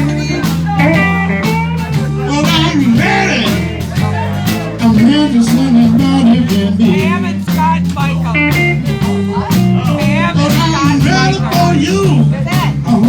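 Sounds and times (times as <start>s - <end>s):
bass line: 0.0s - 13.0s
drums: 0.0s - 13.0s.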